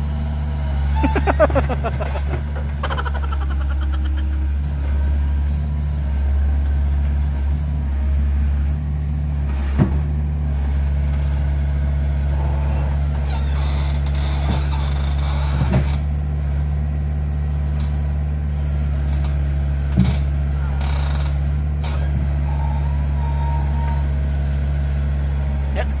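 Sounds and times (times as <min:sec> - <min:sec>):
excavator diesel engine: 0:00.0 - 0:26.0.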